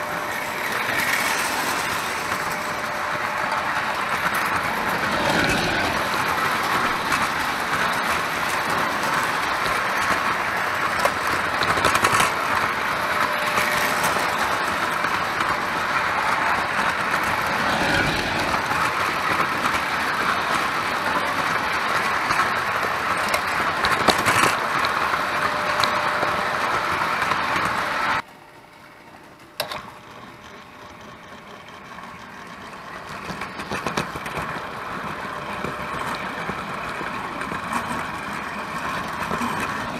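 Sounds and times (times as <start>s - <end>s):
toy trains rumbling on metal track: 0.0s - 39.9s.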